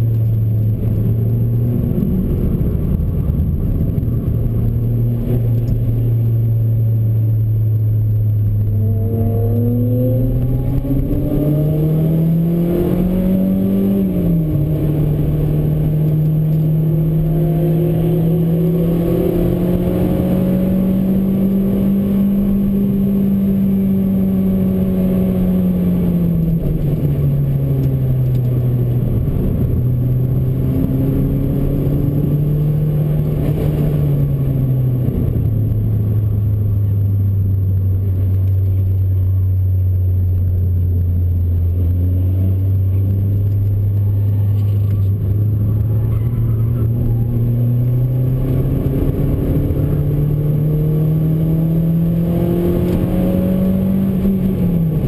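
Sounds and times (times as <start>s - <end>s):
car engine accelerating: 0.0s - 55.0s
tyre and road noise: 0.0s - 55.0s.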